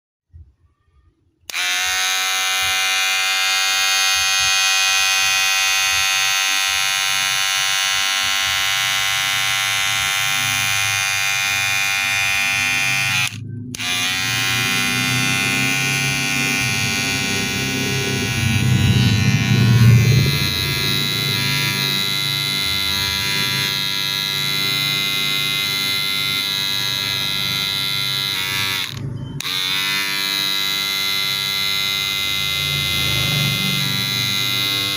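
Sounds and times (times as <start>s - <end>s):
hair clipper buzzing: 1.5s - 34.9s.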